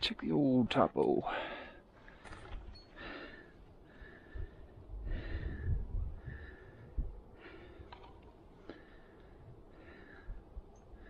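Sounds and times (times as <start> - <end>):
person breathing close to microphone: 1.3 - 11.0.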